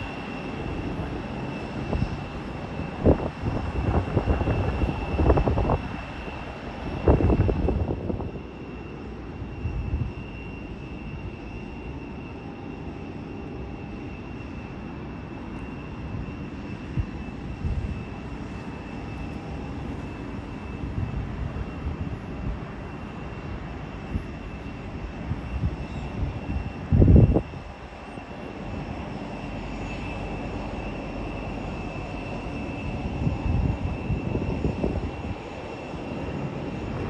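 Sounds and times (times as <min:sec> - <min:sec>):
wind buffeting microphone: 0:00.0 - 0:08.7, 0:09.3 - 0:11.9, 0:15.8 - 0:37.0
jet engines whining: 0:00.0 - 0:37.0.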